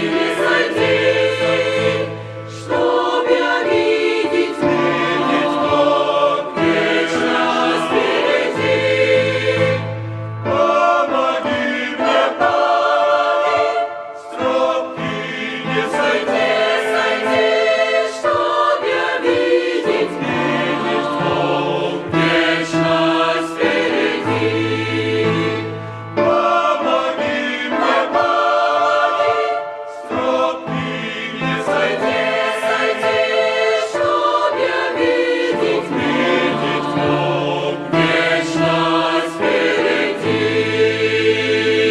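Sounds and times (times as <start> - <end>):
choir singing: 0.0 - 41.9.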